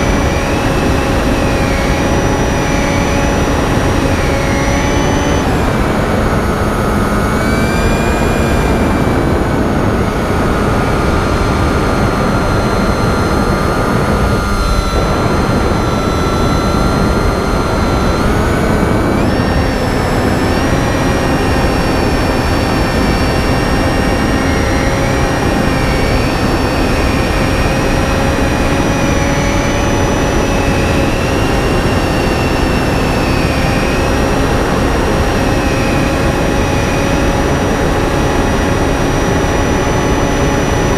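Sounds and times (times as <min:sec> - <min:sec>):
electric motor propeller whine: 0:00.0 - 0:40.9
wind rush: 0:00.0 - 0:40.9.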